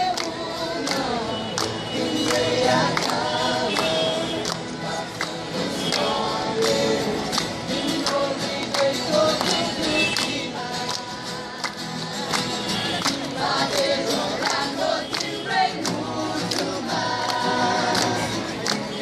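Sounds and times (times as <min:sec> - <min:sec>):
crowd singing in chorus: 0:00.0 - 0:19.0
strummed acoustic guitar: 0:00.0 - 0:19.0.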